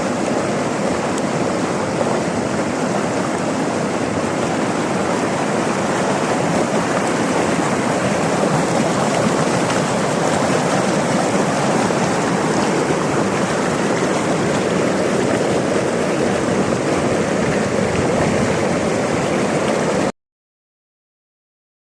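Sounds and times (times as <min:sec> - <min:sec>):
river water rushing: 0:00.0 - 0:20.1.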